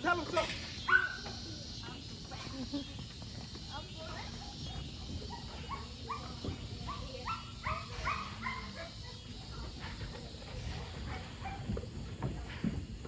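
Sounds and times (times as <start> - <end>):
dogs barking and yipping: 0.0 - 3.0, 4.0 - 12.6.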